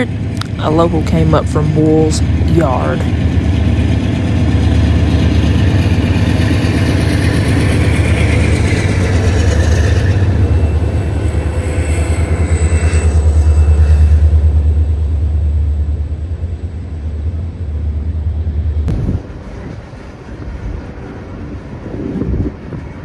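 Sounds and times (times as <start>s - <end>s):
freight locomotives deep rumble: 0.0s - 23.0s.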